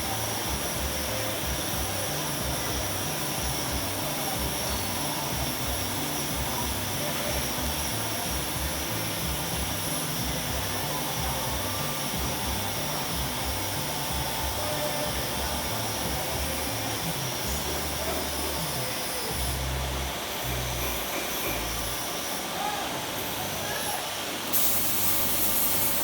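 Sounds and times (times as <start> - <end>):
machine whirring: 0.0 - 26.0.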